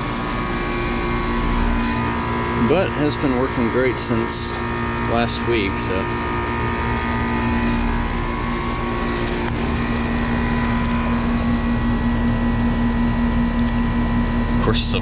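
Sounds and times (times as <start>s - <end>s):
compressor hum: 0.0s - 15.0s.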